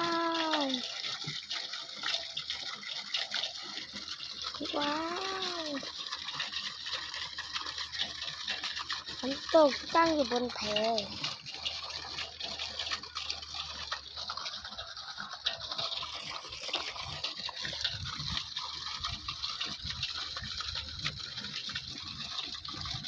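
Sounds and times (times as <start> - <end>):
water splashing into pond: 0.0 - 23.0.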